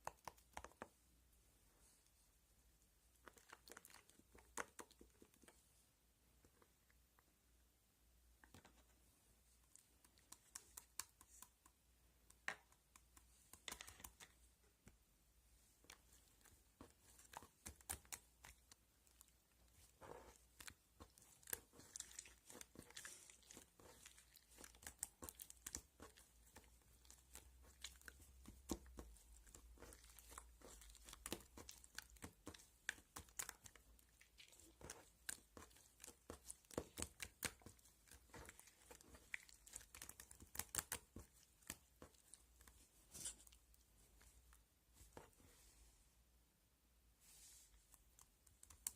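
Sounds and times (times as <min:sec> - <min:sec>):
faint clicks and taps: 0:00.0 - 0:01.0, 0:03.2 - 0:05.7, 0:08.3 - 0:15.1, 0:15.8 - 0:45.7, 0:47.7 - 0:48.9.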